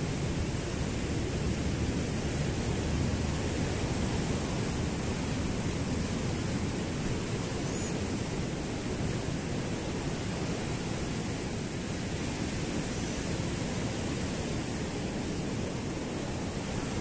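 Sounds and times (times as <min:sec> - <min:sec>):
surf on a beach: 0:00.0 - 0:17.0
wind: 0:00.0 - 0:17.0.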